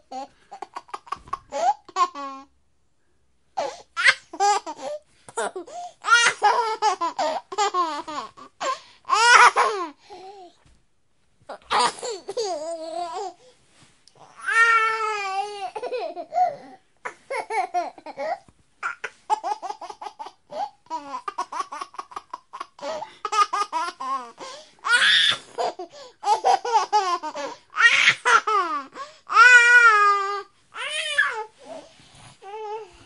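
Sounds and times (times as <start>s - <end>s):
baby laughing and babbling: 0.0s - 2.5s, 3.6s - 10.6s, 11.5s - 13.4s, 14.2s - 31.8s.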